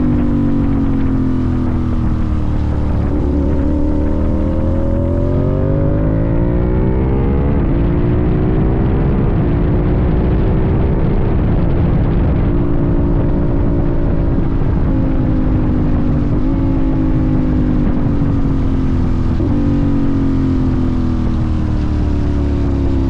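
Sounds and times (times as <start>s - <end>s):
low wind rush: 0.0s - 23.0s
motorcycle engine accelerating: 0.0s - 23.0s.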